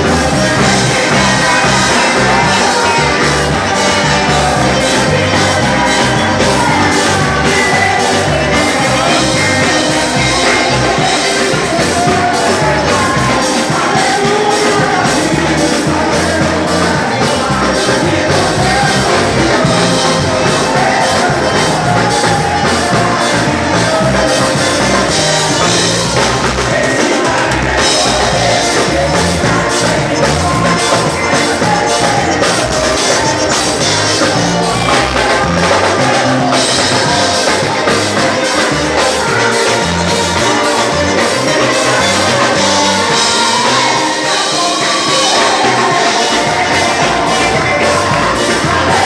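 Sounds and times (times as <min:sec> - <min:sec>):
gospel band playing: 0:00.0 - 0:49.0
singing: 0:00.0 - 0:49.0.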